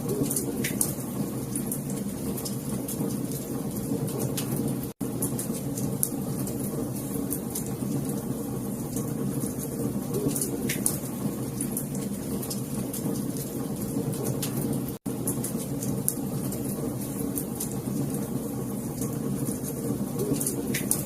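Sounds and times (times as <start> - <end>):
fire flames rumbling: 0.0 - 21.0
fire popping and snapping: 0.0 - 21.0.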